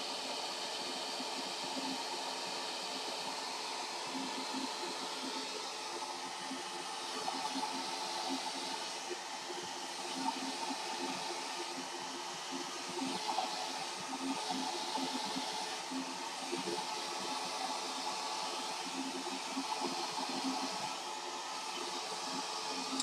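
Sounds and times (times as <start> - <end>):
hair dryer running: 0.0 - 23.0.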